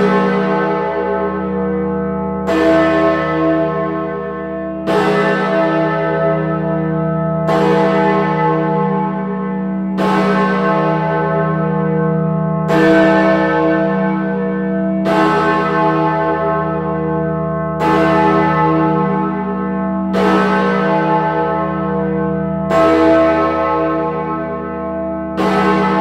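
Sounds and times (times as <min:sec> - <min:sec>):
large tower bell tolling: 0:00.0 - 0:26.0.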